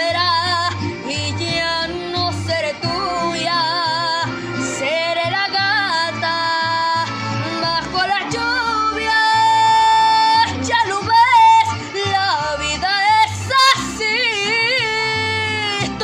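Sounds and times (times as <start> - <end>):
instrumental accompaniment: 0.0 - 16.0
woman singing ballad: 0.0 - 16.0.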